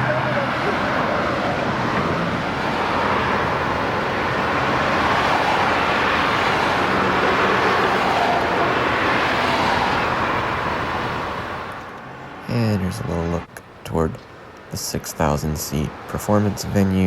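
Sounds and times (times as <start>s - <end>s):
vehicle passing rushing noise: 0.0s - 17.0s.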